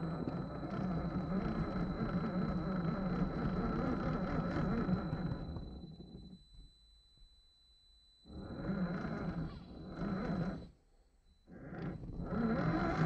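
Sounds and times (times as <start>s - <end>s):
model car electric motor drone: 0.0s - 6.5s, 8.3s - 10.8s, 11.4s - 13.0s.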